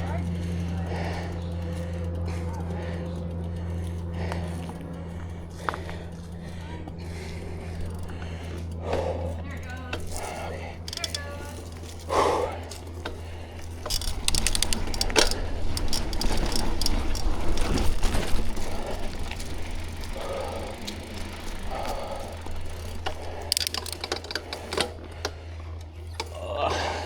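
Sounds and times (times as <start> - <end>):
bike chain clicking and rattling: 0.0 - 27.0
steady low rumble: 0.0 - 27.0.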